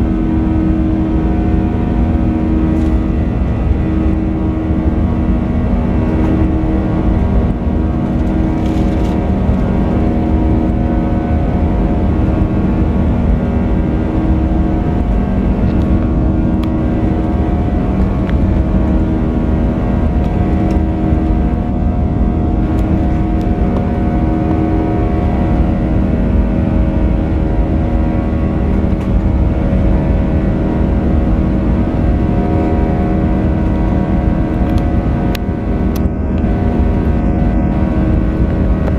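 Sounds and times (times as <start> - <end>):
jet engine cabin hum: 0.0 - 38.9.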